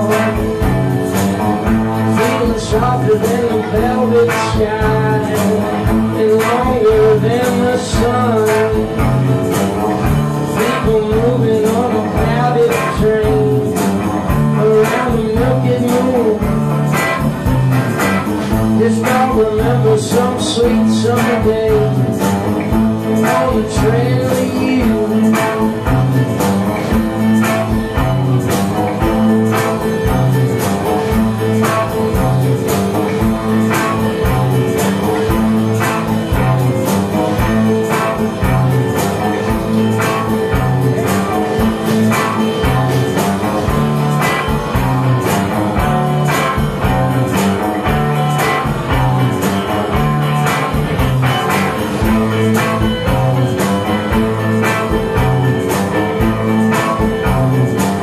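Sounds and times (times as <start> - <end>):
electric guitars: 0.0 - 58.0
rock band playing live: 0.0 - 58.0.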